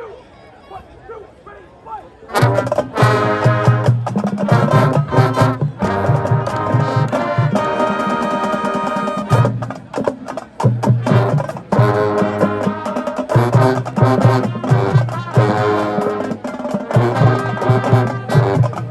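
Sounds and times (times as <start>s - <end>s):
brass chords: 2.3s - 18.9s
drumline percussion: 2.3s - 18.9s
marching band playing: 2.3s - 18.9s.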